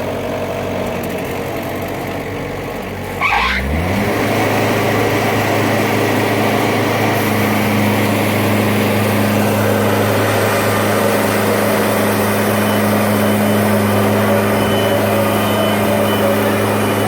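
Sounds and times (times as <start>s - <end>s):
sawmill engine running: 0.0s - 17.0s.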